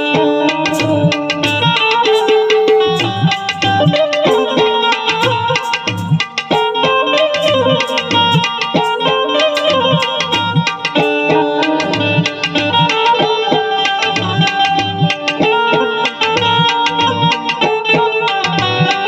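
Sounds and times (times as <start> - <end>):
melody instrument: 0.0 - 19.0
tabla playing a steady rhythm: 0.0 - 19.0.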